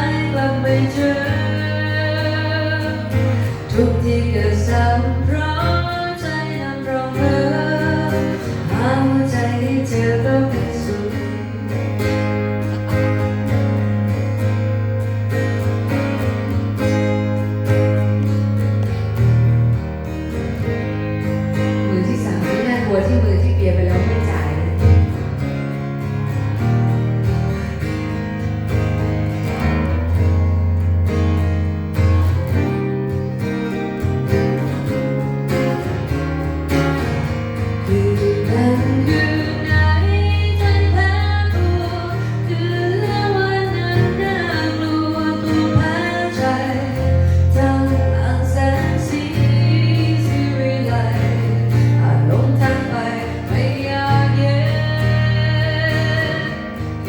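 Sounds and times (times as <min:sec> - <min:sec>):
guitars: 0:00.0 - 0:57.0.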